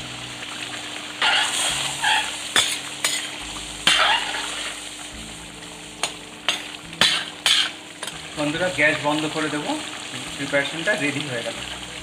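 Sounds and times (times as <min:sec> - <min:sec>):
steady sizzling hiss: 0:00.0 - 0:12.0.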